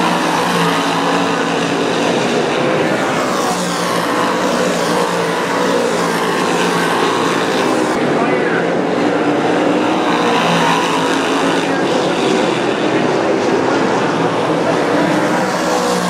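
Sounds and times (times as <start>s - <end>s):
race car engines roaring: 0.0s - 16.0s.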